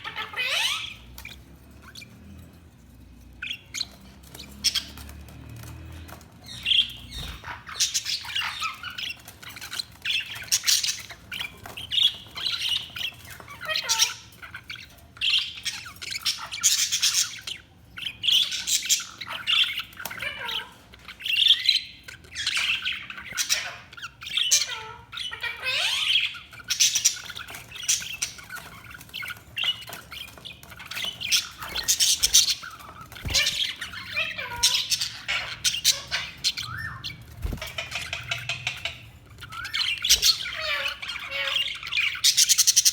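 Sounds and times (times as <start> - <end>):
budgerigars chattering and chirping: 0.0 - 42.9.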